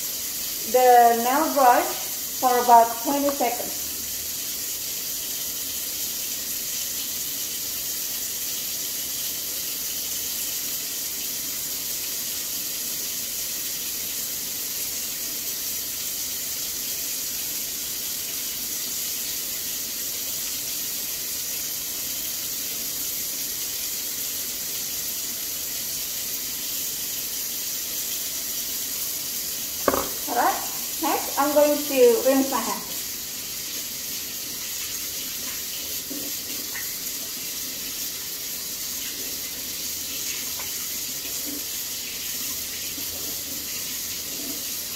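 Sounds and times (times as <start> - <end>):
faucet running into metal sink: 0.0 - 19.7, 26.0 - 44.9.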